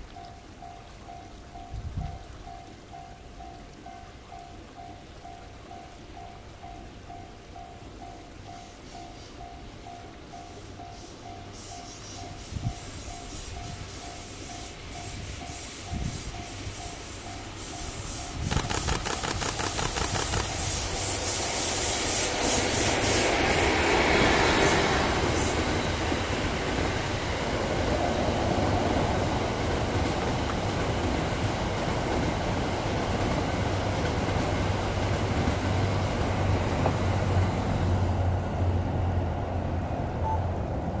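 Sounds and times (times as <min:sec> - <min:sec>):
train rolling rush and rumble: 0:00.0 - 0:41.0.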